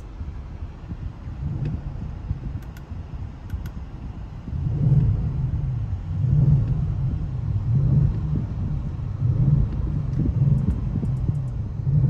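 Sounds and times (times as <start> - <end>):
car engine deep exhaust rumble: 0.0 - 12.0.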